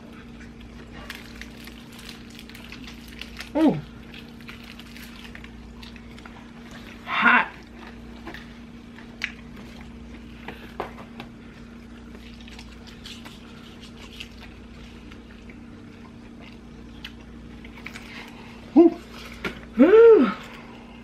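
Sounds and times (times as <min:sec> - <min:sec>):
chewing and biting food: 0:00.0 - 0:19.7
steady low hum: 0:00.0 - 0:21.0.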